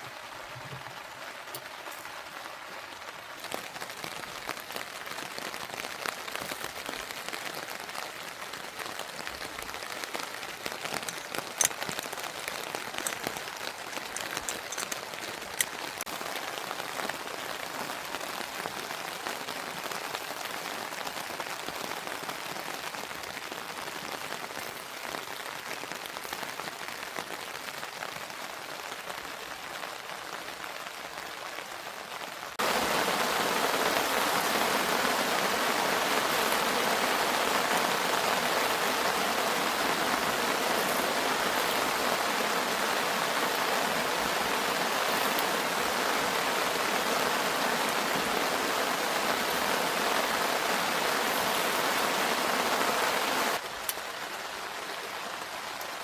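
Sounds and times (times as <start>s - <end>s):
rain falling steadily: 0.0s - 56.0s.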